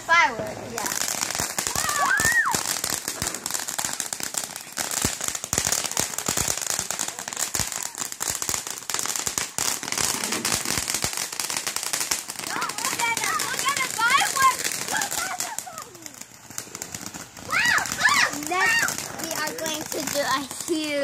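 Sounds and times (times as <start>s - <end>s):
fireworks crackling pops: 0.0s - 21.0s
steady high hiss: 0.0s - 21.0s.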